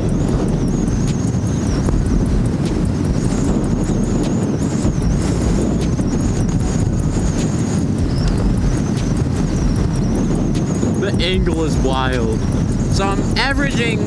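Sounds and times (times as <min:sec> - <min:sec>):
scooter engine at full throttle: 0:00.0 - 0:14.0
wind buffeting microphone: 0:00.0 - 0:14.0.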